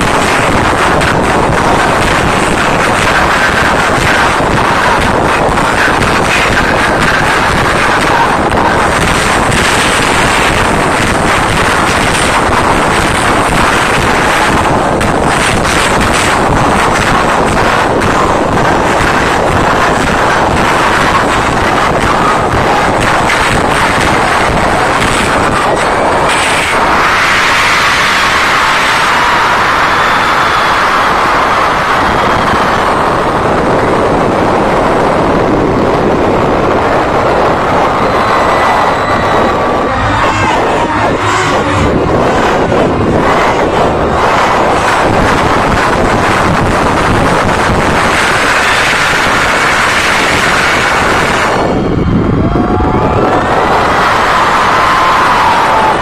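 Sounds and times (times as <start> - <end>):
crowd screaming distorted: 0.0 - 56.0.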